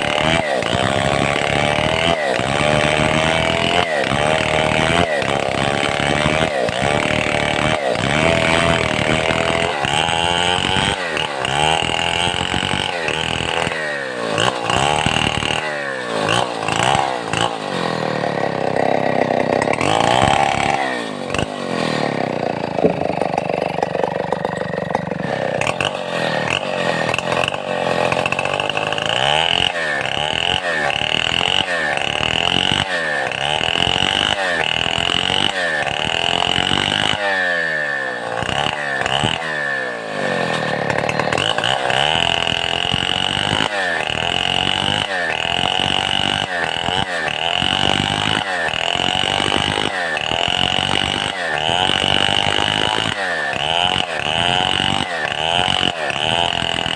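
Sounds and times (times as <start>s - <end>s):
chainsaw revving: 0.0s - 56.9s.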